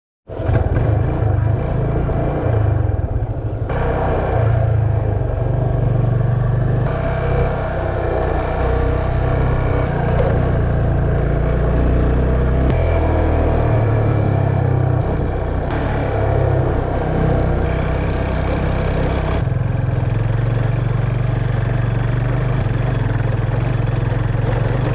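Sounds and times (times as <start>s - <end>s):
motorcycle engine running: 0.3s - 24.9s.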